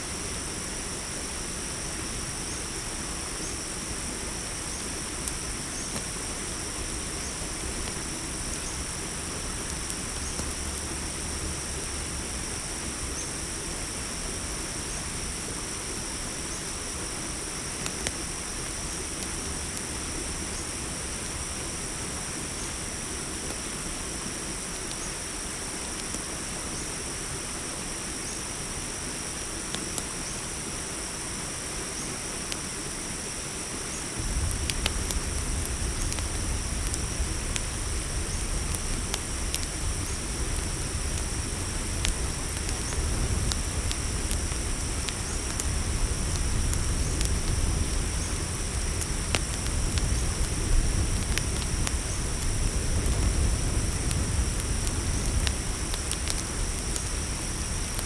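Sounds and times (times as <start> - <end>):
campfire crackling: 0.0 - 58.0
crickets chirping: 0.0 - 58.0.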